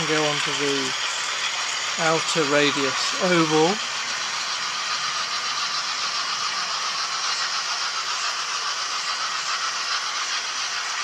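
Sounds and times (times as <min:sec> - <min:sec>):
model trains whirring and rattling: 0:00.0 - 0:11.0.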